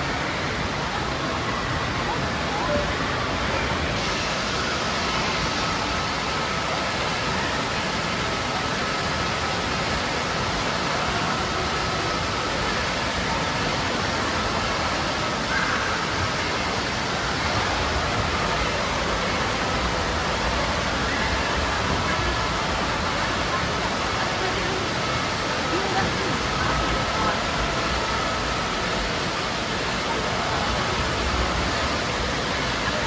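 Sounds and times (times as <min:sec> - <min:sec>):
faint voices: 0:00.0 - 0:33.0
water rushing and splashing: 0:00.0 - 0:33.0.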